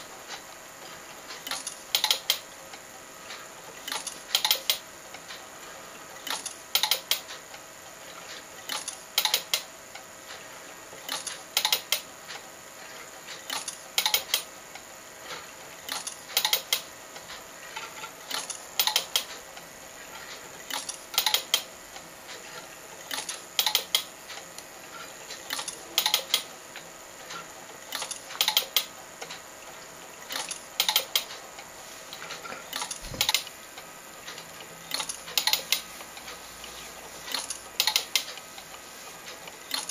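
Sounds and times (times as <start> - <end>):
sharp mechanical clicks: 1.3 - 5.4, 6.2 - 7.6, 8.3 - 12.4, 13.3 - 19.7, 20.3 - 24.7, 25.3 - 29.4, 30.2 - 31.7, 32.3 - 33.6, 34.2 - 39.9.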